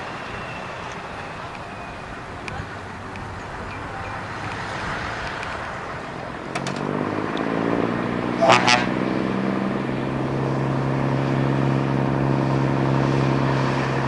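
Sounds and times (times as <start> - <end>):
truck traffic rumble: 0.0 - 14.0.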